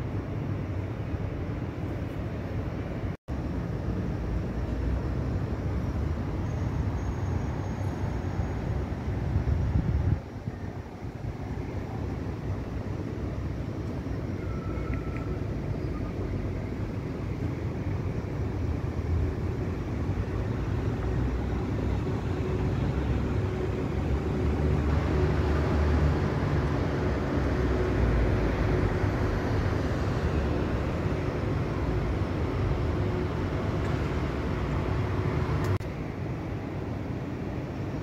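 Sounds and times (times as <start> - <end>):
city traffic rumble: 0.0 - 38.0.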